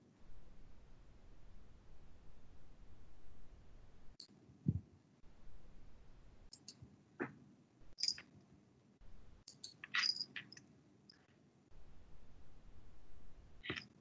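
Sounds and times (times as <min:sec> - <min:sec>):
quiet low hum: 0:00.0 - 0:14.0.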